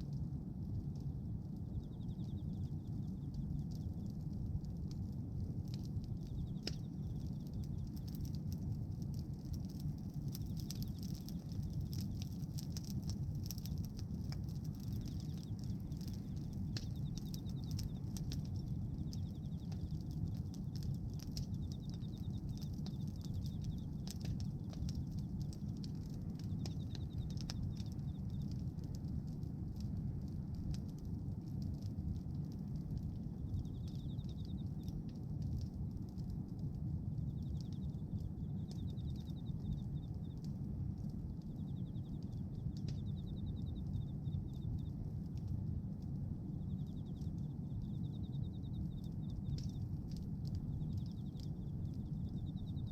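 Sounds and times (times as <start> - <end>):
bonfire rumble: 0.0 - 52.9
fire crackles and pops: 0.0 - 52.9.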